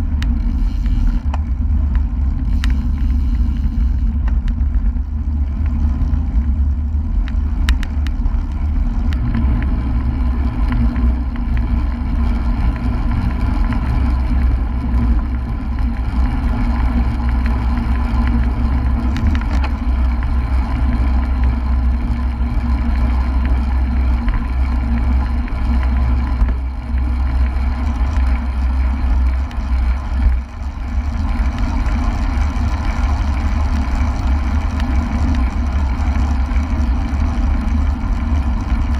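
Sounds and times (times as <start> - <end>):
wind rumbling over microphone: 0.0 - 38.9.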